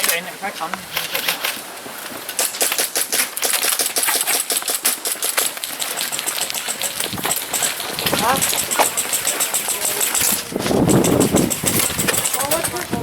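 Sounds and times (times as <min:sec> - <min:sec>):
airsoft guns shooting: 0:02.4 - 0:13.0.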